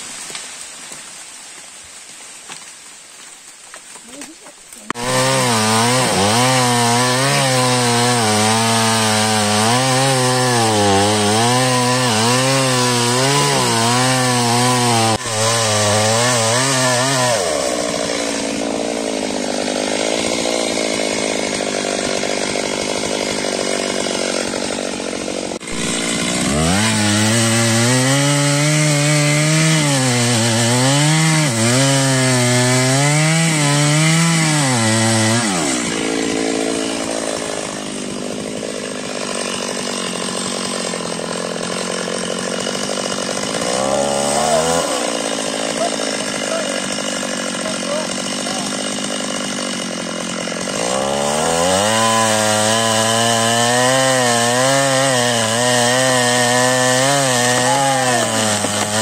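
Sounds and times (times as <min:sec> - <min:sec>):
chainsaw cutting tree trunk: 0:00.0 - 0:59.0.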